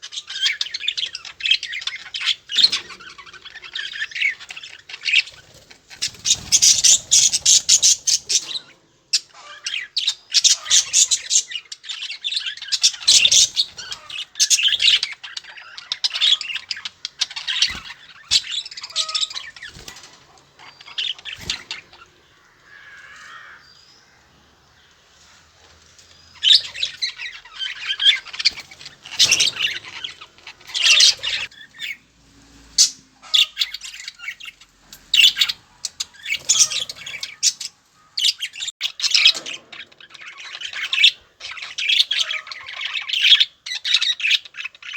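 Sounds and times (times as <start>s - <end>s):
budgerigars chattering and squawking: 0.0s - 44.9s.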